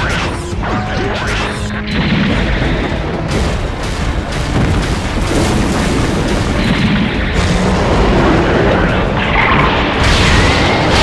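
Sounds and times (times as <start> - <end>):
music: 0.0 - 11.0
heavy booms and explosion rumble: 1.8 - 11.0.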